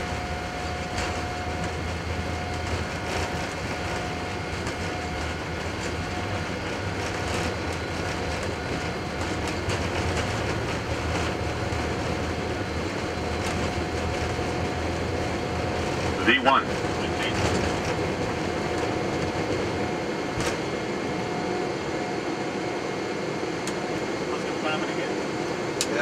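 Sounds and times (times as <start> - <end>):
landing gear rolling on runway: 0.0 - 21.9
jet engines deep rumble: 0.0 - 26.0.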